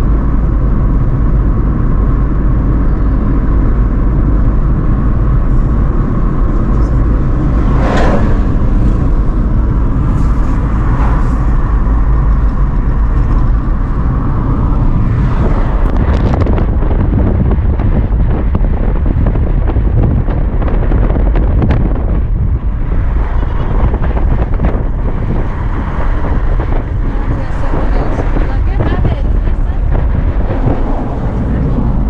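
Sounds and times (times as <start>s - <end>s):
car road noise rumble: 0.0s - 32.0s
wind buffeting microphone: 0.0s - 32.0s.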